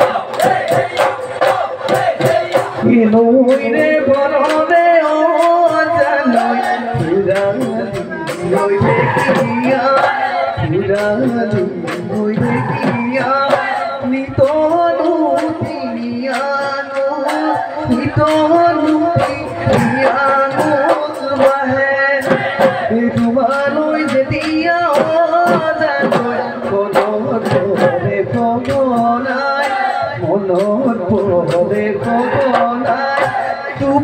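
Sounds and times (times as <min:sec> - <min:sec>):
barrel drums beating: 0:00.0 - 0:34.0
man singing: 0:00.0 - 0:34.0.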